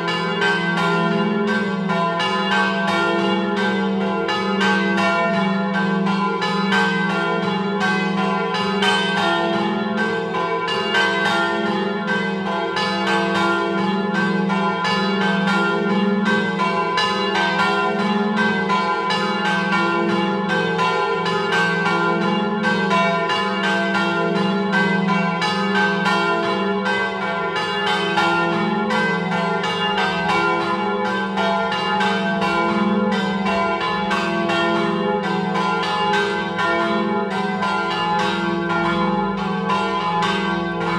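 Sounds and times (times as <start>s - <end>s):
swinging church bells pealing: 0.0s - 40.9s.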